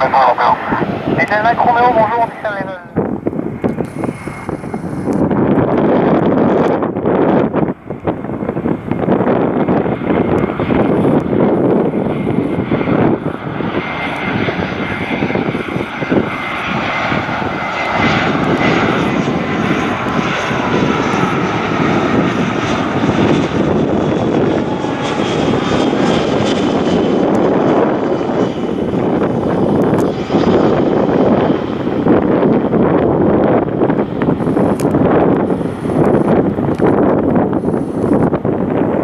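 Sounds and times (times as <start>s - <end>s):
jet airliner engine roar: 0.0s - 39.0s.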